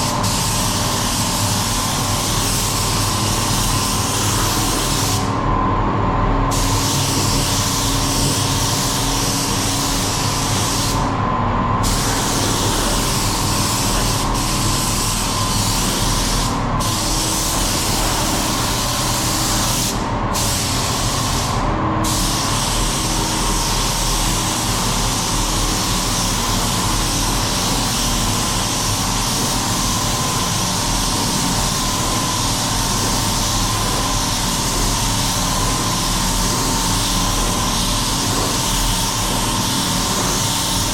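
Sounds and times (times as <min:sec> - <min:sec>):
air spray gun hissing: 0:00.0 - 0:05.4, 0:06.5 - 0:11.2, 0:11.8 - 0:40.9
steady low hum: 0:00.0 - 0:40.9.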